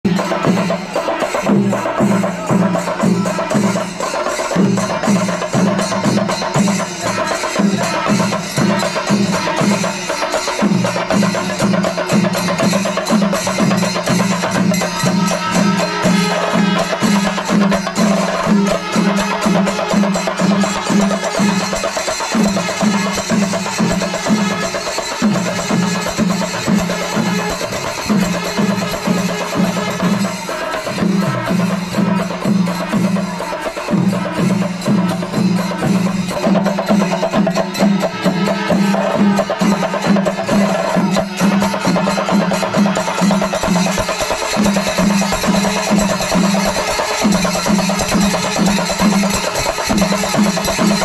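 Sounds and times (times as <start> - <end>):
drums struck in steady rhythm: 0.0 - 51.0
hand cymbals clashing: 0.1 - 51.0.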